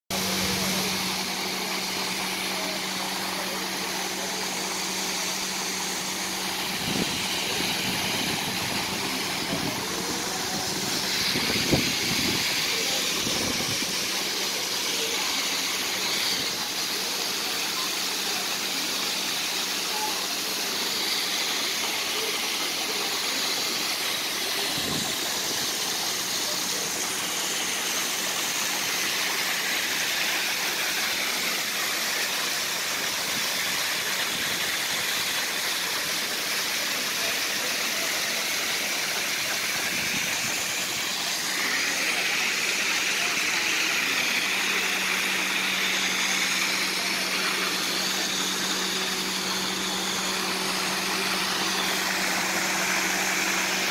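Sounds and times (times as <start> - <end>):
fountain jet splashing water: 0.1 - 53.9.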